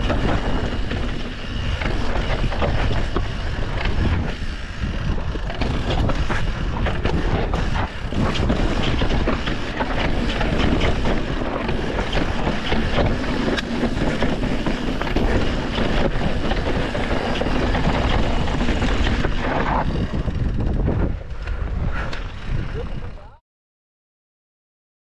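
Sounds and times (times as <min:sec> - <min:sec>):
bike knocking and rattling: 0:00.0 - 0:23.2
tyres rolling on dirt trail: 0:00.0 - 0:23.2
wind buffeting microphone: 0:00.0 - 0:23.4.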